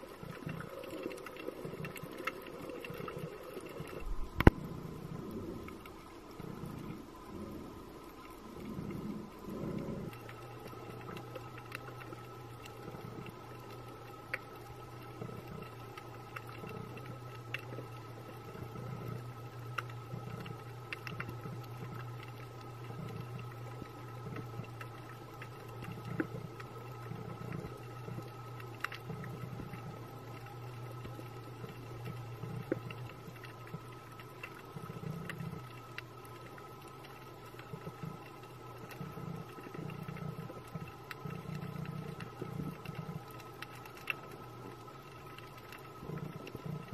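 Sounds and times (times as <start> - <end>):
faint whining tones: 0.0 - 46.9
steady low underwater hum: 0.0 - 46.9.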